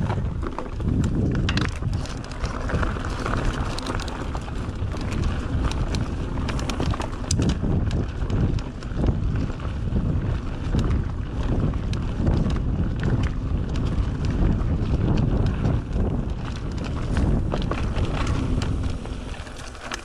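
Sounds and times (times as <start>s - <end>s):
bike clicks and rattles: 0.0s - 20.0s
wind rumbling on microphone: 0.0s - 20.0s.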